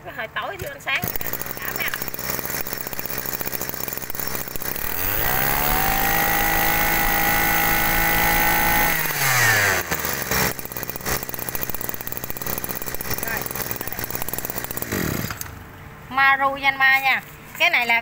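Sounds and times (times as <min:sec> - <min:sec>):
brush cutter engine revving: 0:00.9 - 0:15.6.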